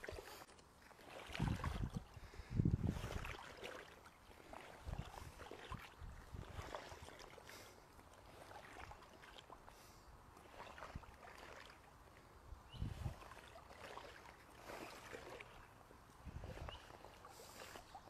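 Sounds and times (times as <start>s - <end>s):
soft thuds of wading: 0.0s - 18.0s
water sloshing and swishing: 0.0s - 18.0s.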